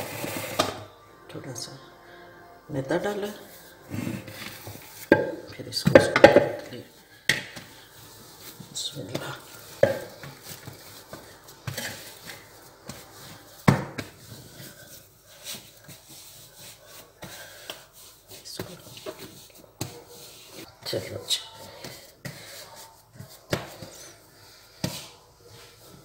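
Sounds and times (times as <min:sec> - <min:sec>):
hands kneading dough: 0:03.0 - 0:26.0.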